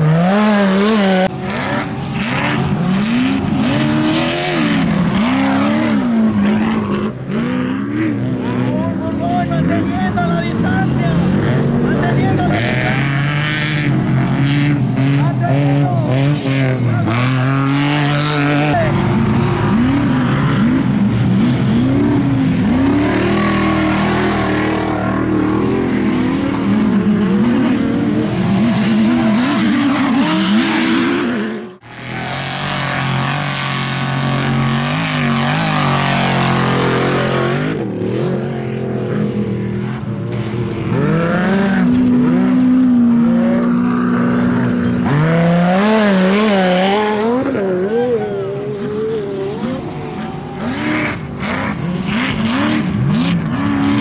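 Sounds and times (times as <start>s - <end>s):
race trucks revving past: 0.0s - 54.0s.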